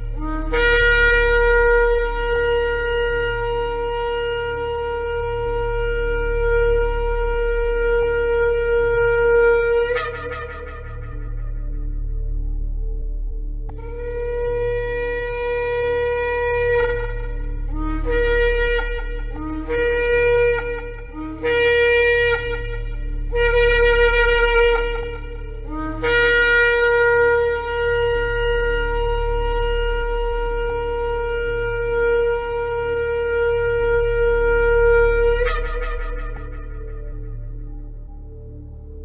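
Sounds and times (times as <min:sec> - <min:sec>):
shofar blasts: 0:00.0 - 0:13.1, 0:13.7 - 0:39.0
steady low hum: 0:00.0 - 0:39.0.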